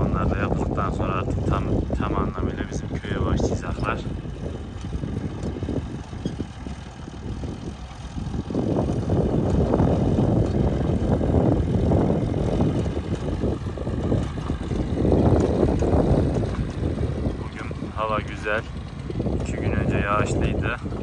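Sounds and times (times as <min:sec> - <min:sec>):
combine harvester rumbling: 0:00.0 - 0:21.0
wind on microphone: 0:00.0 - 0:21.0.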